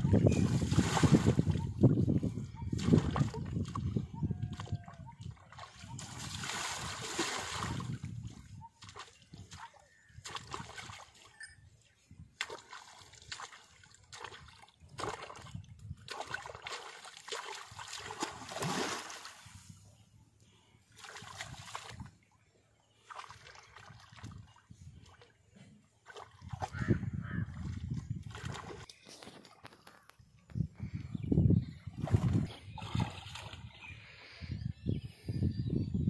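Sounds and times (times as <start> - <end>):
pond water splashing: 0.0 - 1.9, 2.6 - 11.4, 12.3 - 19.7, 20.9 - 30.0, 31.9 - 33.8.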